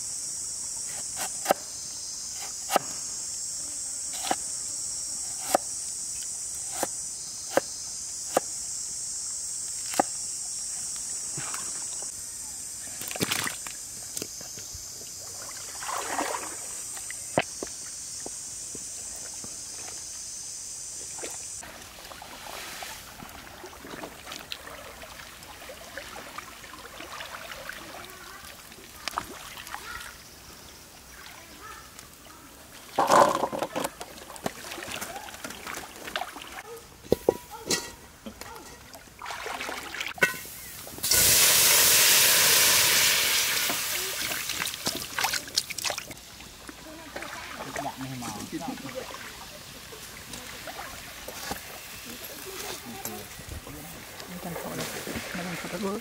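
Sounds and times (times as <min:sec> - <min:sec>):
chorus of insects: 0:00.0 - 0:56.0.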